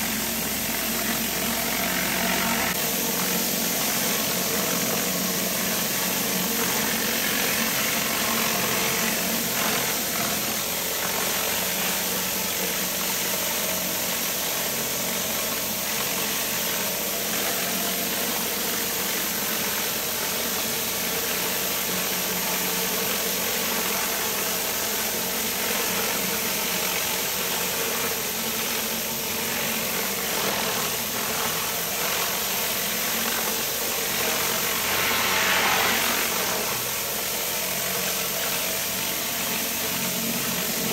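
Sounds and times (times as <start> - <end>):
hiss of high-pressure water jet: 0.0 - 40.9
pressure washer engine running: 0.0 - 40.9.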